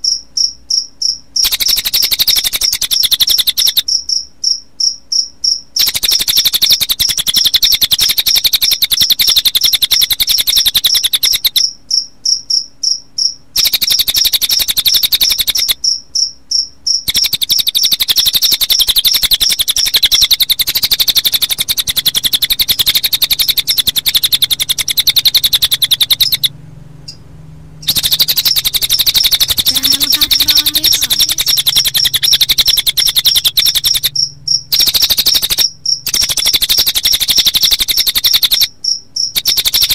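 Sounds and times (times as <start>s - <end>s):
crickets chirping: 0.0s - 26.5s, 27.8s - 39.9s
bird song trill: 0.0s - 39.9s.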